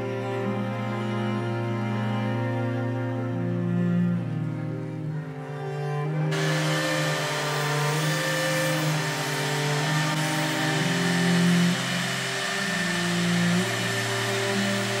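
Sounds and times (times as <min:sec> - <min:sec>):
cello music: 0:00.0 - 0:15.0
router spindle whining: 0:00.0 - 0:15.0.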